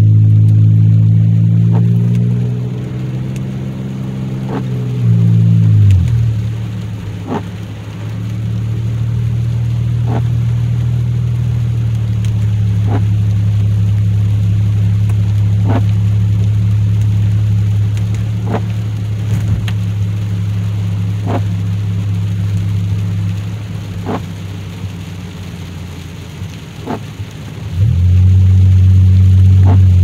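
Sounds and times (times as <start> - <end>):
car engine droning: 0.0 - 30.0
rain on car: 0.0 - 30.0
road noise: 0.0 - 30.0
windshield wipers swishing: 0.0 - 30.0.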